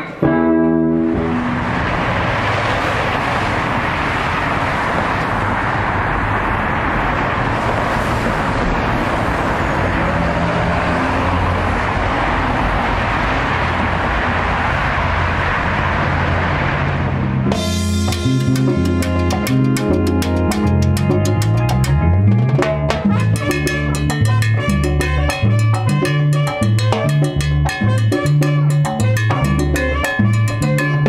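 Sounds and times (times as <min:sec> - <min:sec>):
freeway traffic: 0:00.0 - 0:31.0.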